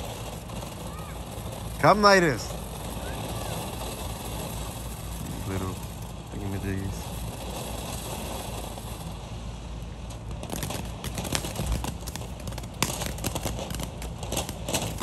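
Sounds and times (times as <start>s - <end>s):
crackling pops: 0.0s - 9.2s, 9.8s - 15.0s
firework fountain hissing: 0.0s - 15.0s.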